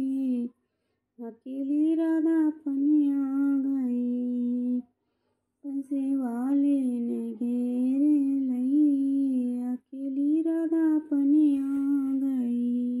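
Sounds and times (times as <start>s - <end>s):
woman singing wordless melody: 0.0s - 0.5s, 1.2s - 4.9s, 5.6s - 13.0s.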